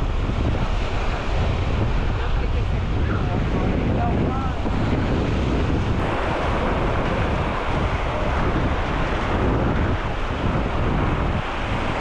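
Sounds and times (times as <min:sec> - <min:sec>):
small waves breaking: 0:00.0 - 0:12.0
wind buffeting microphone: 0:00.0 - 0:12.0.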